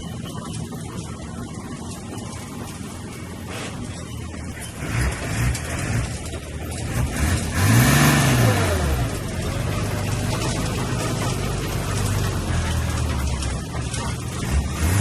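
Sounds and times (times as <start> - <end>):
diesel engine revving: 2.2 - 15.0.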